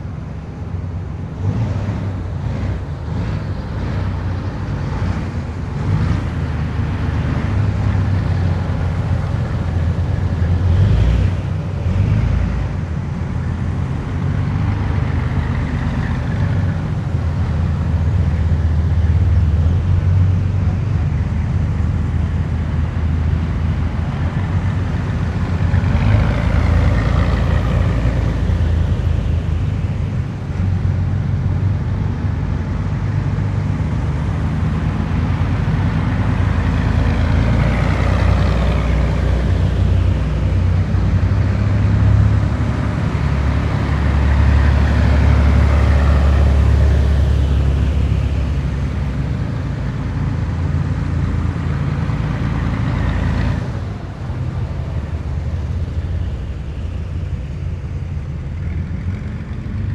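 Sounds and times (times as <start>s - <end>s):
heavy military vehicles driving past: 0.0s - 59.9s.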